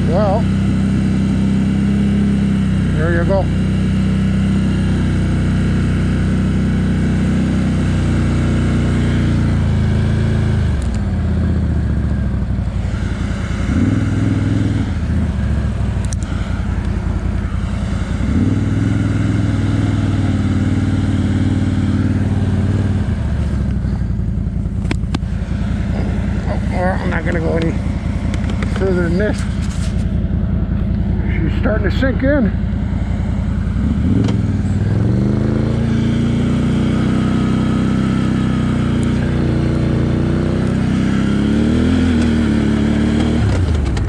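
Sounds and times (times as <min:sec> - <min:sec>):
atv engine revving in snow: 0:00.0 - 0:44.0.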